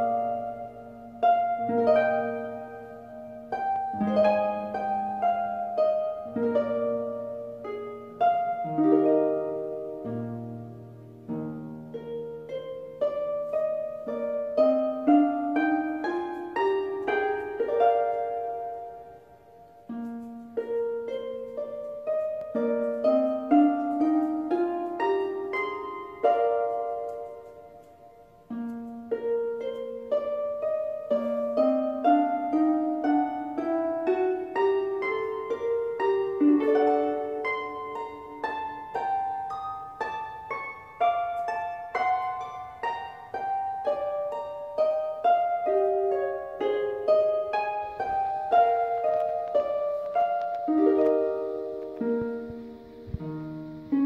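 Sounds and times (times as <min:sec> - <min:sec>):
harp-like melody: 0:00.0 - 0:54.0.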